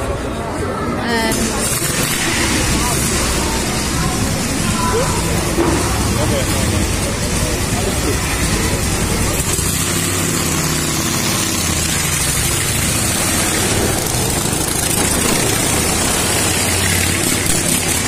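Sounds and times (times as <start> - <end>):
motorcycle engine running: 1.2 - 18.0.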